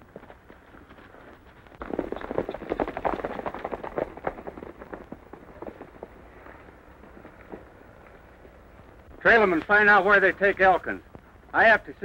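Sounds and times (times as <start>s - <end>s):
horses galloping on dirt: 0.0s - 11.8s.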